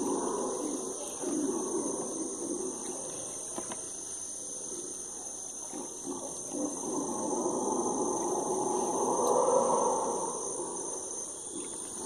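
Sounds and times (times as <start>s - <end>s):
howler monkeys roaring: 0.0s - 3.4s, 5.7s - 12.0s.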